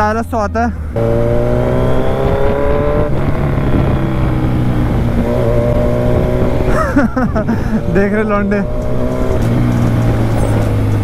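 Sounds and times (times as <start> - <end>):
motorcycle engine running: 0.8 - 11.0.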